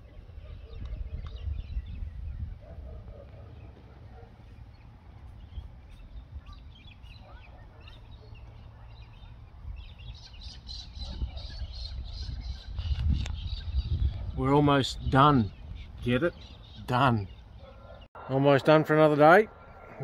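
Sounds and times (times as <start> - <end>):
small birds chirping: 0.0 - 18.1.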